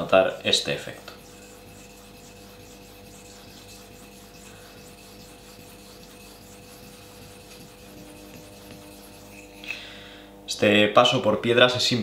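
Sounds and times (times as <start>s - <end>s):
blade scraping on wet whetstone: 0.0s - 9.8s.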